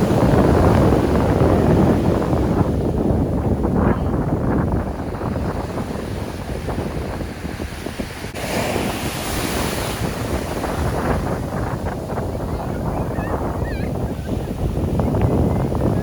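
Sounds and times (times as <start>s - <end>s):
sea surf breaking on beach: 0.0s - 16.0s
wind buffeting microphone: 0.0s - 16.0s.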